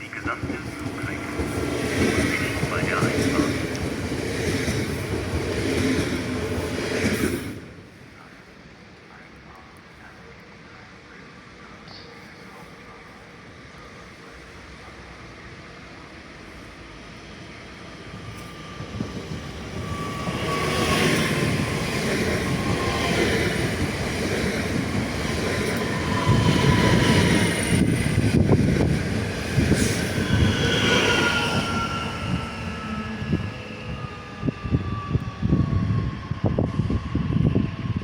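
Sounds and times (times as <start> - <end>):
train pulling into station: 0.0 - 38.0.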